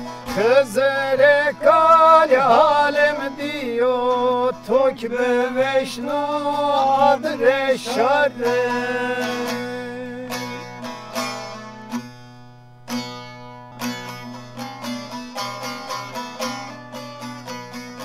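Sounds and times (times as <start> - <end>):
saz plucked melody: 0.0 - 18.0.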